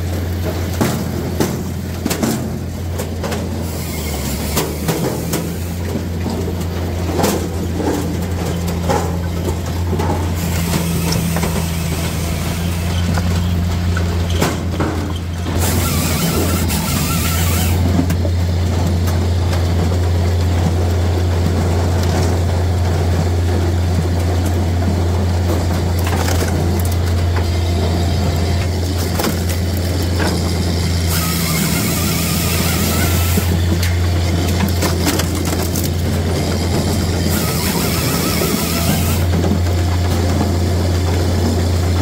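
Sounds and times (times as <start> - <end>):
hydraulic machine humming: 0.0 - 19.3, 25.4 - 42.0
logs splitting and clattering: 0.0 - 42.0.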